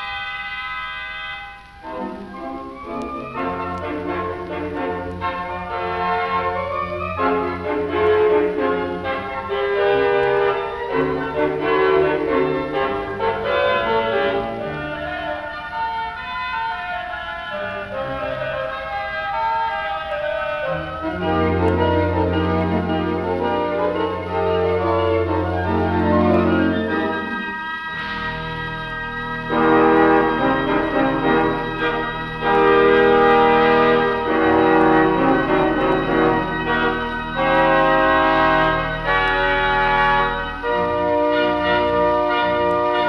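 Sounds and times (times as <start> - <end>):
theatre organ chords: 0.0 - 43.0.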